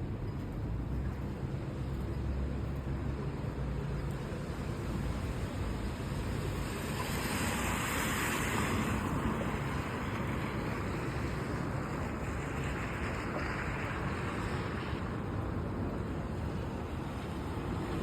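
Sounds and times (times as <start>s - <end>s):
traffic noise: 0.0s - 18.0s
steady rain: 0.7s - 18.0s
tyres hissing on wet road: 1.7s - 18.0s.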